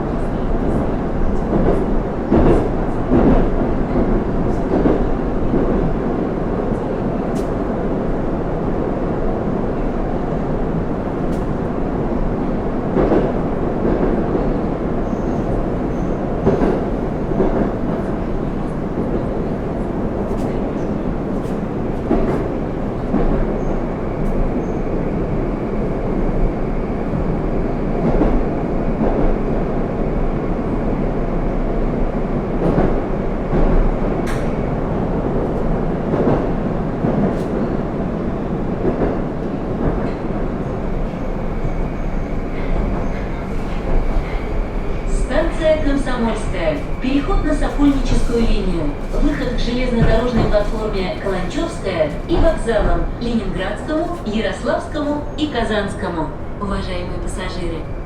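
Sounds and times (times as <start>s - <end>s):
train rolling rumble: 0.0s - 58.0s.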